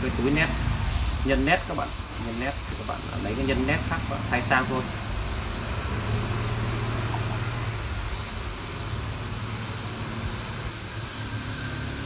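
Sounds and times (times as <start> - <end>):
hot-air gun hissing: 0.0 - 12.0
low motor hum: 0.0 - 12.0.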